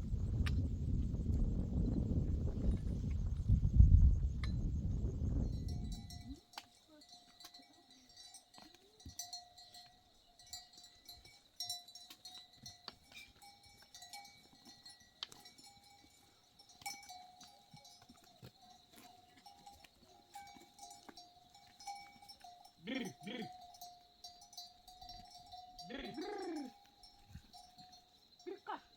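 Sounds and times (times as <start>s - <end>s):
livestock bells ringing: 5.5s - 28.9s.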